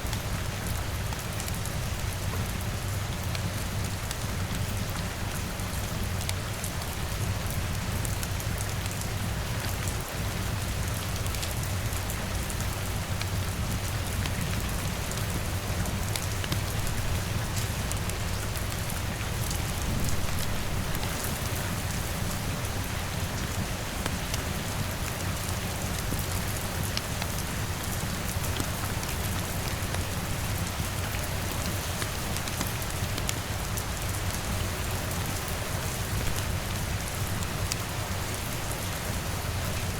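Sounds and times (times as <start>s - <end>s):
rain on window and roof: 0.0s - 39.9s.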